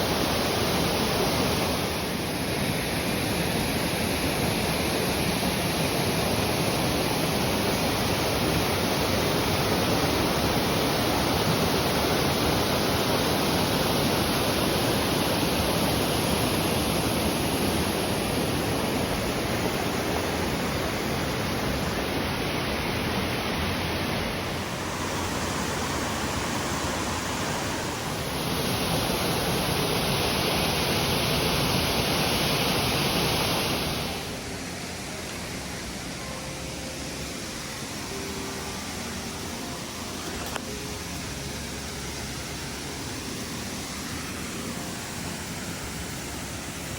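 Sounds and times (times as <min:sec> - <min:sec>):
waterfall pouring: 0:00.0 - 0:46.9.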